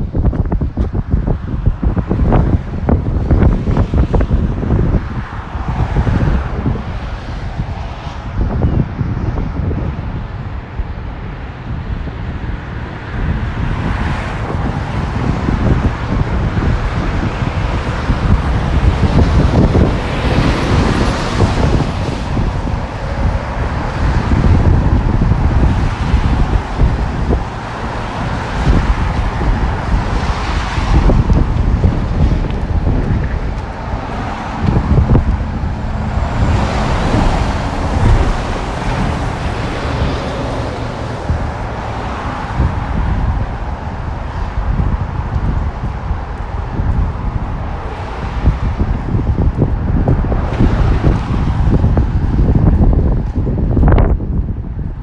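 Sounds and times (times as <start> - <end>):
cars passing on wet street: 0.0 - 55.0
wind buffeting microphone: 0.0 - 55.0.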